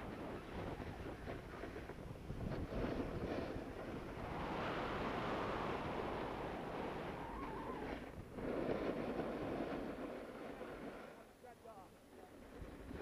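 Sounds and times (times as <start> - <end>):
wind on microphone: 0.0 - 11.2, 12.2 - 13.0
snowboard scraping over snow: 0.0 - 13.0.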